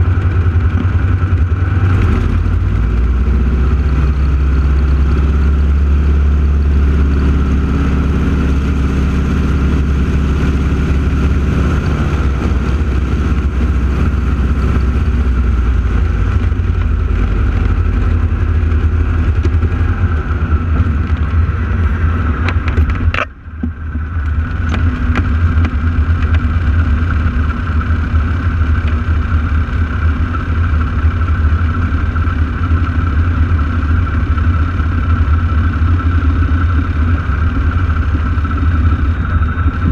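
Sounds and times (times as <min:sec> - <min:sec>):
propeller plane engines droning: 0:00.0 - 0:39.9.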